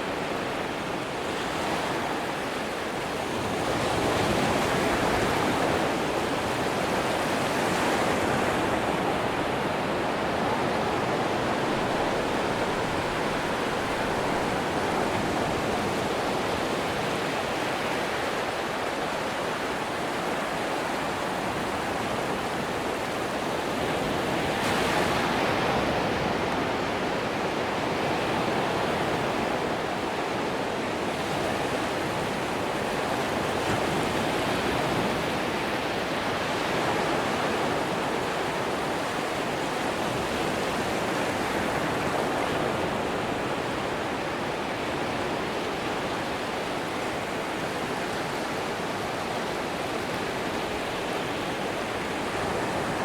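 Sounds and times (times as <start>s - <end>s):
surf washing on beach: 0.0s - 53.0s.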